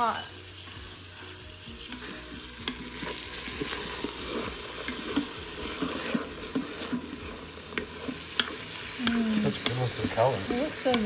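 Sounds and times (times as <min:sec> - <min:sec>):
vegetables sizzling in pot: 0:00.0 - 0:11.0
utensil scraping metal pot: 0:00.6 - 0:11.0.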